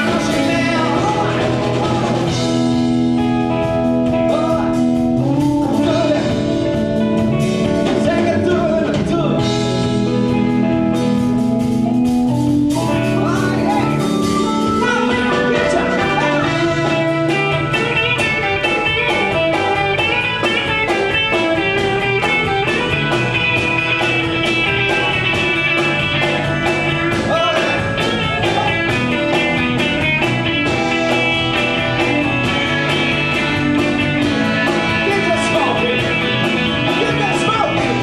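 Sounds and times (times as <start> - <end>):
electric guitar: 0.0 - 38.0
steady drum beat: 0.0 - 38.0.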